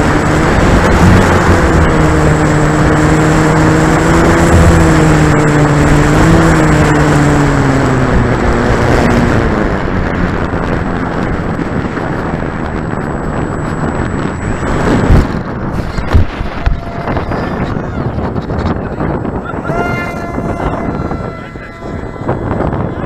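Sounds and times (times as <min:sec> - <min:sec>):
electric motor and propeller hum: 0:00.0 - 0:23.0
wind buffeting microphone: 0:00.0 - 0:23.0.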